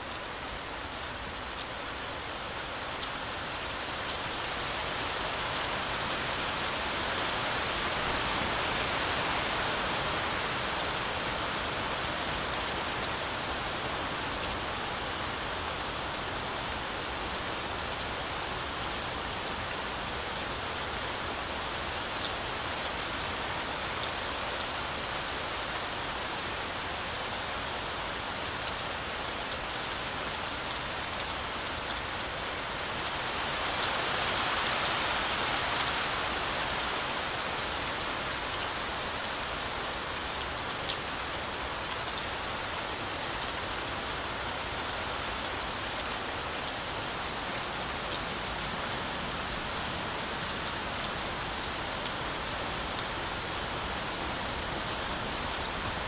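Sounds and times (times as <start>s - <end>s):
heavy rain on forest canopy: 0.0s - 56.0s.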